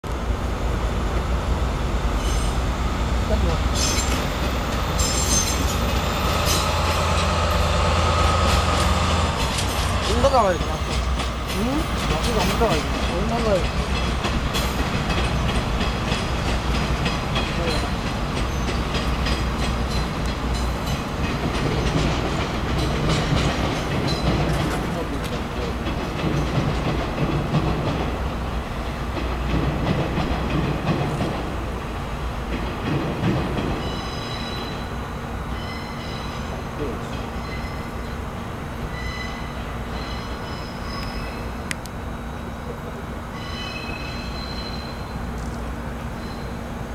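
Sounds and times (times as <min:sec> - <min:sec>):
train wheels clicking over rail joints: 0:00.1 - 0:38.3.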